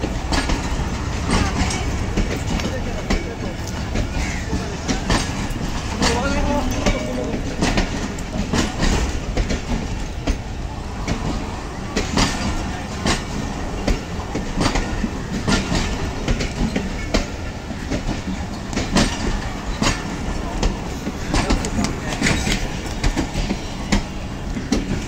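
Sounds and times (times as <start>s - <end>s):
train wheels rumbling: 0.0s - 25.0s
wheels clacking over rail joints: 0.0s - 25.0s.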